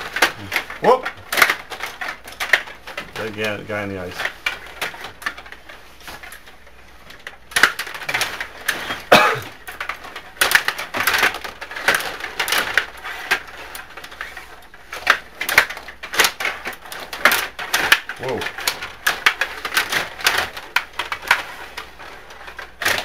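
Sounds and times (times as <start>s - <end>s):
table hockey clacks and rattles: 0.0s - 23.0s.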